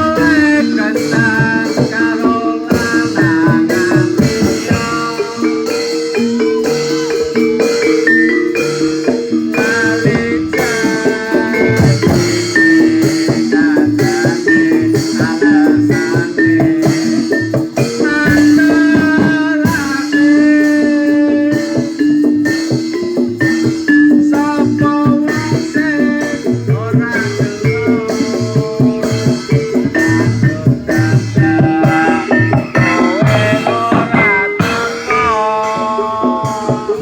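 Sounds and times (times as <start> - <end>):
fast dense drumming: 0.0 - 37.0.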